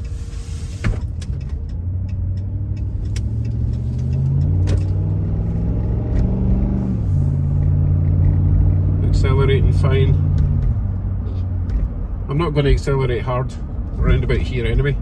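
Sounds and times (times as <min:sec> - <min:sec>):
truck engine accelerating: 0:00.0 - 0:12.3.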